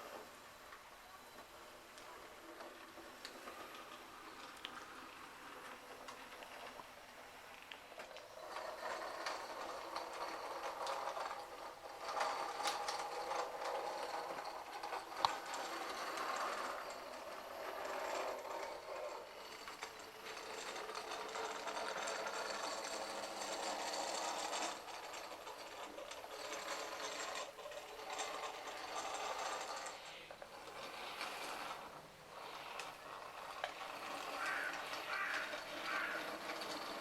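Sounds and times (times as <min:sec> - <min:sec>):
model train motor whirring: 0:00.0 - 0:37.0.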